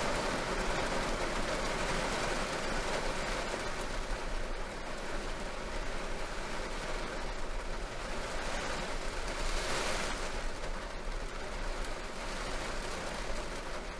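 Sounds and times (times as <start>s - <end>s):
heavy rain on car roof: 0.0s - 13.9s.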